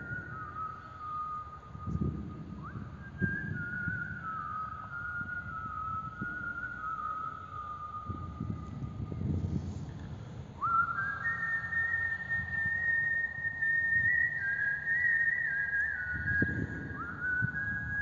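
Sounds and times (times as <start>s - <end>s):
whistle-like held notes: 0.0s - 9.6s, 10.6s - 18.0s
low road noise rumble: 0.0s - 18.0s.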